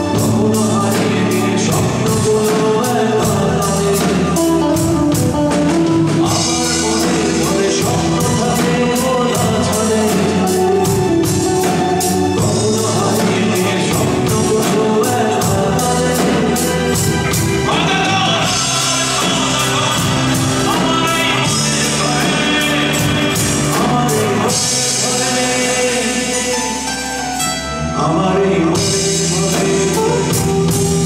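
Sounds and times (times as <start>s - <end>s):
steady drum beat: 0.0s - 27.0s, 28.8s - 31.0s
live band playing: 0.0s - 31.0s
person singing: 0.0s - 31.0s.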